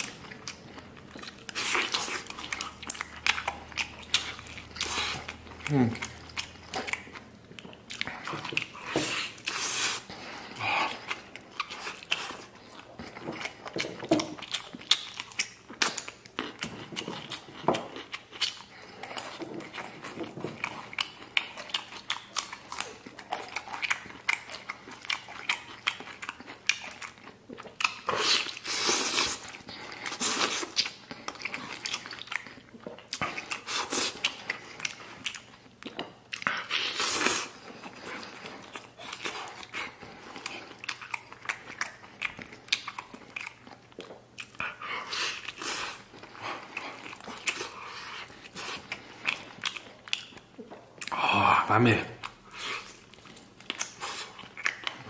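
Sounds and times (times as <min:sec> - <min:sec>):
chewing meat: 0:00.0 - 0:55.0.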